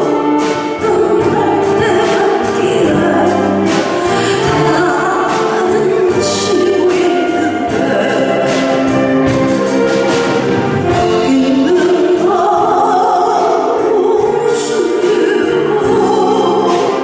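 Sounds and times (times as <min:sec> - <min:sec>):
saxophone ensemble playing: 0:00.0 - 0:17.0.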